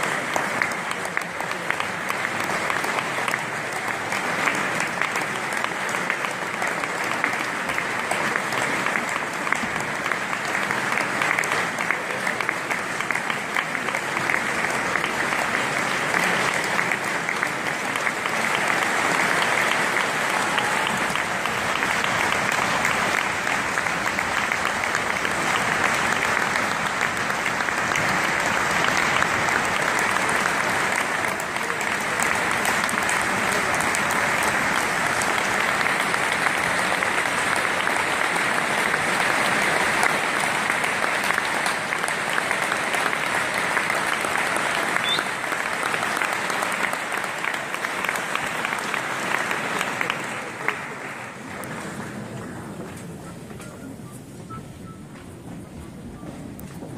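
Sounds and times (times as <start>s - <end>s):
audience applauding: 0.0s - 56.9s.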